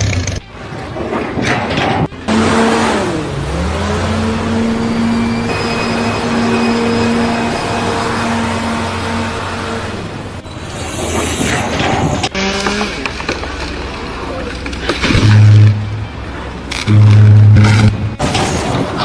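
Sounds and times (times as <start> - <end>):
engine running: 0.0 - 19.0
loud rushing noise: 0.4 - 19.0.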